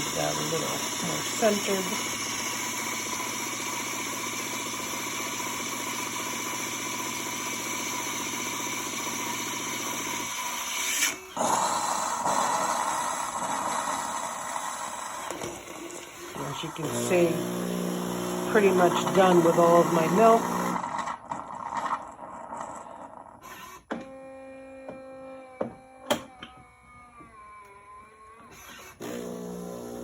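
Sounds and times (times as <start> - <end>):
milk frother hissing: 0.0 - 24.2, 28.5 - 30.0
coffee machine pump humming: 0.0 - 26.5, 28.5 - 30.0.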